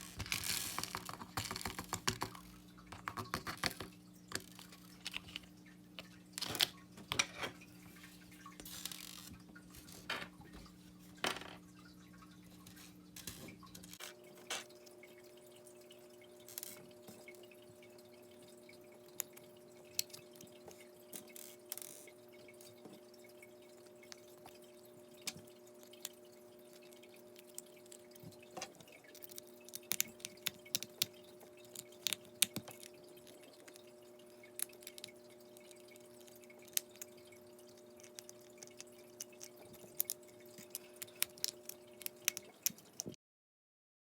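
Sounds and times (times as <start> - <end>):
faint steady hum: 0.0 - 43.2.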